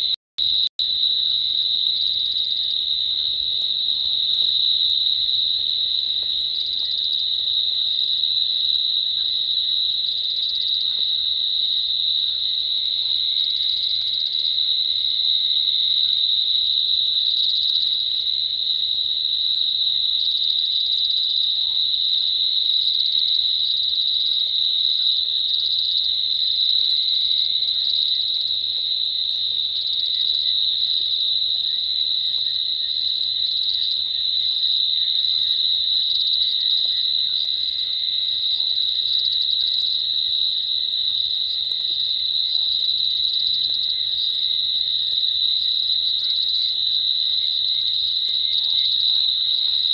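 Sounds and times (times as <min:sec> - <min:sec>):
crickets and insects trilling: 0:00.0 - 0:49.9.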